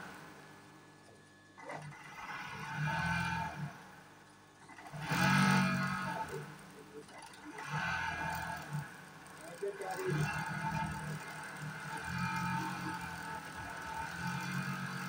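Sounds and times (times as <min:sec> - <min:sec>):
overlock machine stitching: 0:01.6 - 0:15.0.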